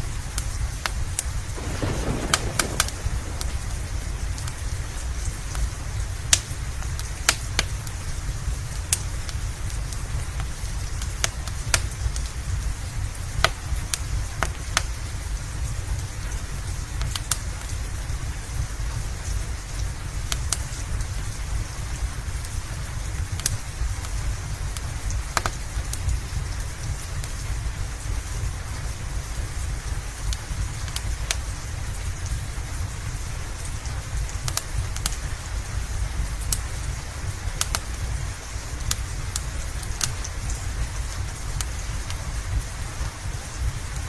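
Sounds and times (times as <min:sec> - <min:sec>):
steady rain: 0:00.0 - 0:44.0
wood fire crackling: 0:00.0 - 0:44.0.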